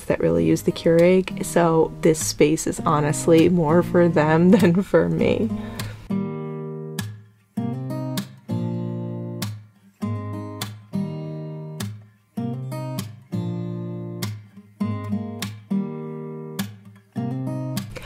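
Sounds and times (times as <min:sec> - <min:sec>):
acoustic guitar strumming chords: 0:00.1 - 0:18.0.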